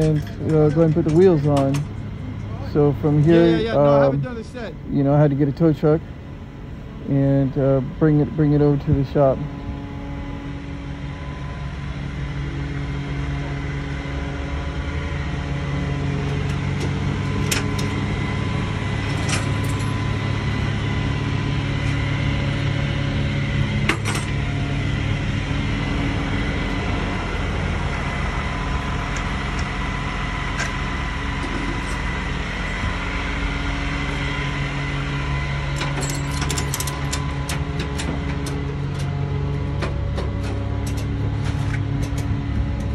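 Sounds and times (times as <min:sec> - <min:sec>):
faint steady whine: 0:00.0 - 0:40.0
truck engine humming: 0:00.0 - 0:42.9.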